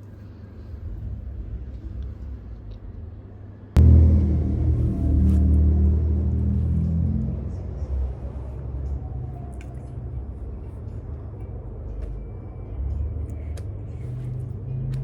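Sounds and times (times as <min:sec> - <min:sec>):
train rumbling: 0:00.7 - 0:15.0.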